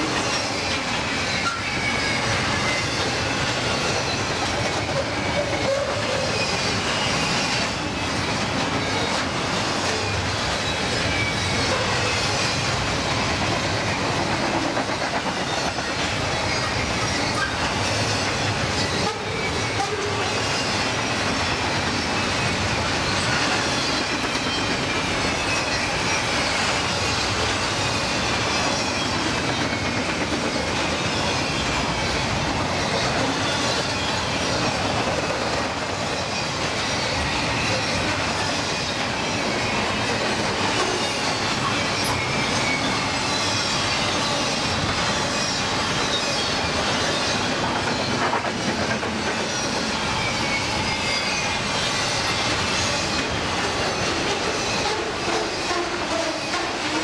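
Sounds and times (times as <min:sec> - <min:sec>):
freight train wheels rumbling: 0:00.0 - 0:57.0
high wheel squeal: 0:00.0 - 0:57.0.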